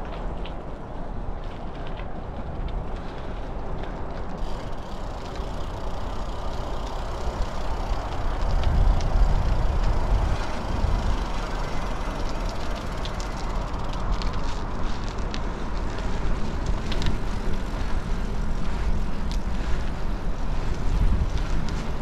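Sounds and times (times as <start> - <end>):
bike rolling on gravel: 0.0 - 22.0
wind on microphone: 1.2 - 22.0.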